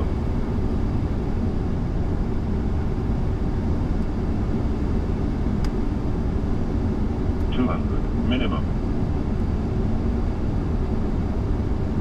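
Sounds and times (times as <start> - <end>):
low rumble of airflow and engines: 0.0 - 12.0.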